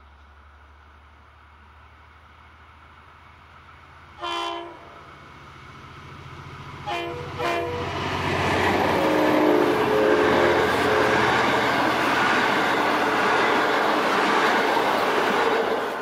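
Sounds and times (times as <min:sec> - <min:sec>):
diesel locomotive engine running: 0:00.0 - 0:16.0
train carriages wheels on rail: 0:00.0 - 0:16.0.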